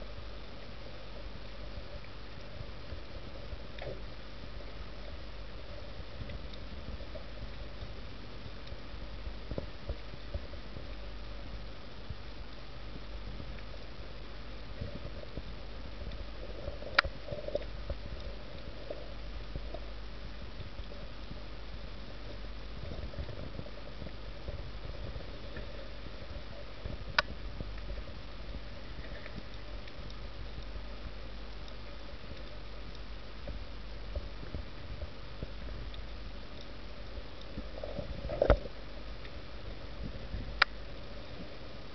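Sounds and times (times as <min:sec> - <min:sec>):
low underwater rumble: 0:00.0 - 0:41.9
faint clicks: 0:06.1 - 0:20.0, 0:20.6 - 0:41.6.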